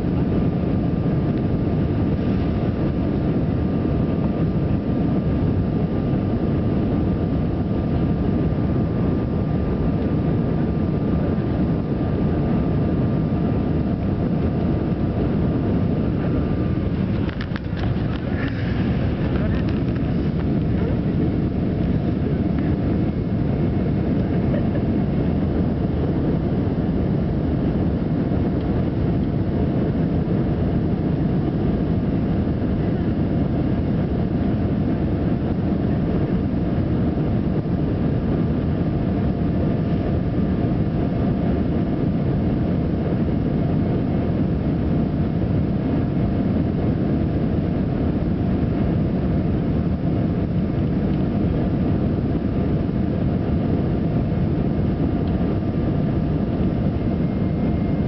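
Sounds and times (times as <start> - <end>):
airplane cabin rumble: 0.0 - 58.0
faint steady whining tones: 0.0 - 58.0.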